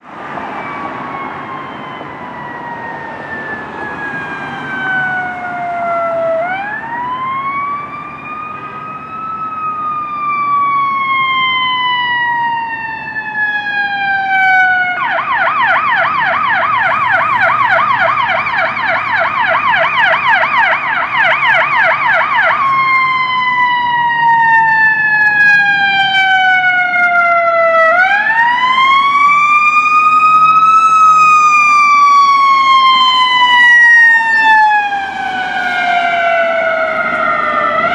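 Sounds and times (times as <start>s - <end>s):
emergency vehicle siren: 0.0s - 37.9s.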